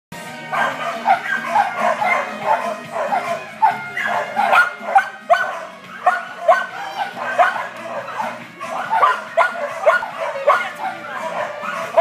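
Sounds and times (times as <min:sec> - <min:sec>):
small dog barking: 0:00.5 - 0:12.0.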